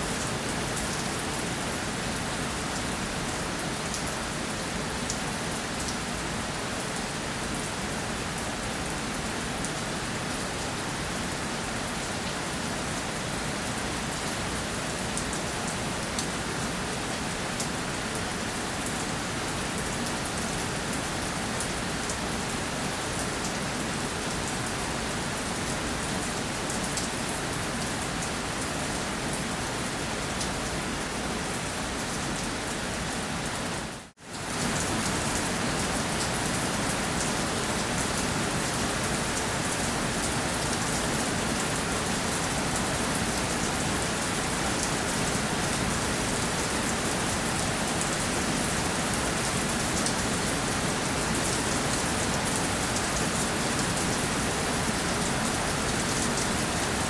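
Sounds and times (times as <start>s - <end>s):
rain pattering on a surface: 0.1s - 57.0s.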